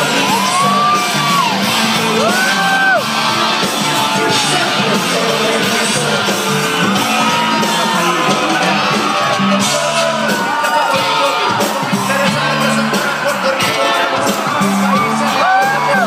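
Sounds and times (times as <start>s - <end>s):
crowd shouting and cheering: 0.0s - 16.0s
live band playing loud music: 0.0s - 16.0s.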